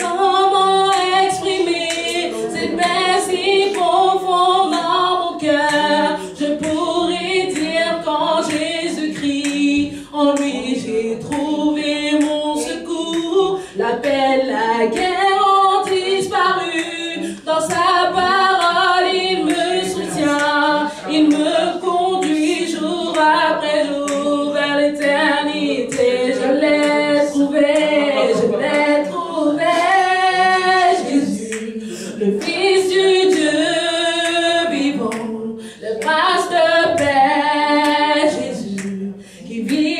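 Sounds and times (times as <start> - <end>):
woman singing unaccompanied: 0.0 - 39.9.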